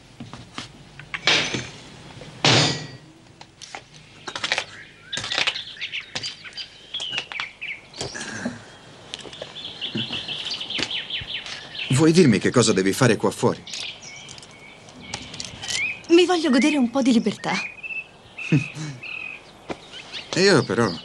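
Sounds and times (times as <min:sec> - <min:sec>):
small birds chirping: 0:03.8 - 0:21.0.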